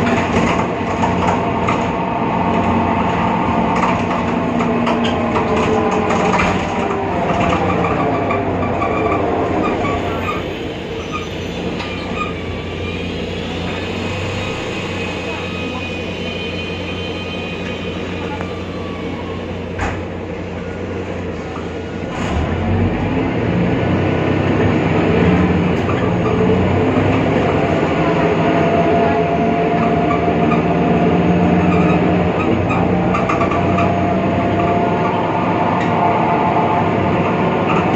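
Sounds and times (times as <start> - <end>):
bus diesel engine running: 0.0 - 37.9.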